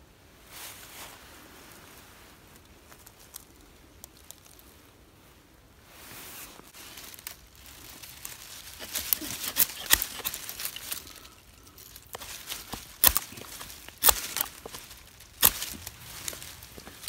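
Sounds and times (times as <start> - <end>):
dry needles and twigs crunching: 1.8 - 5.3, 6.0 - 17.0.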